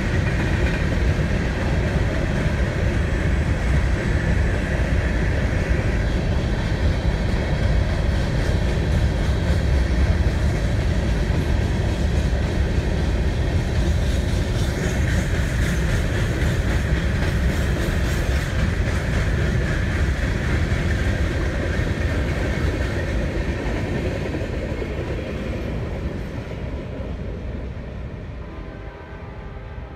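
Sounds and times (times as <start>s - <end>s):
steel wheels on rail: 0.0s - 29.9s.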